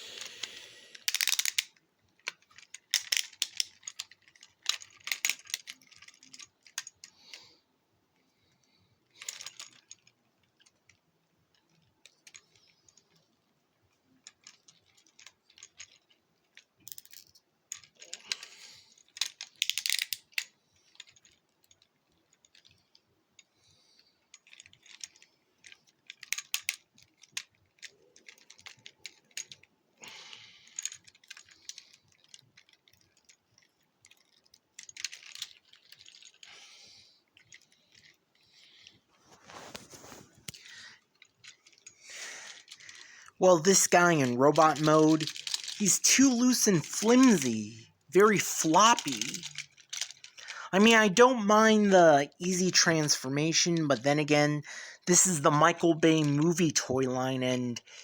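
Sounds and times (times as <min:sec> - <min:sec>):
plastic toy clicking and rattling: 0:00.2 - 0:07.4, 0:08.6 - 0:13.3, 0:14.1 - 0:36.6, 0:39.6 - 0:51.6.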